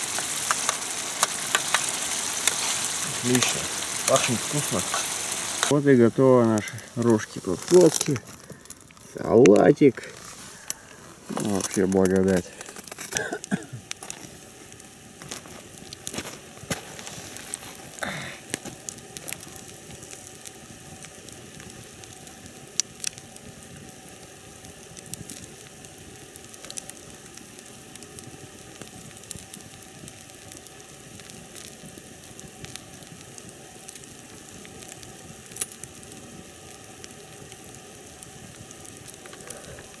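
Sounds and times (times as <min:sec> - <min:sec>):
campfire hissing: 0:00.0 - 0:40.0
fire crackles and pops: 0:00.0 - 0:40.0.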